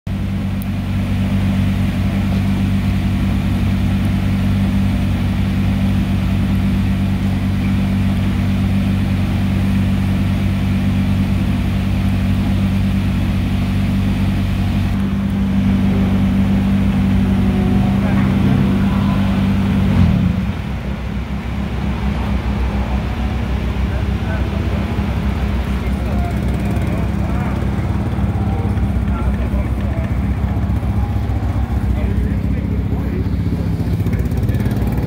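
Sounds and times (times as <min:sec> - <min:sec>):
car engine idling: 0:00.1 - 0:35.0.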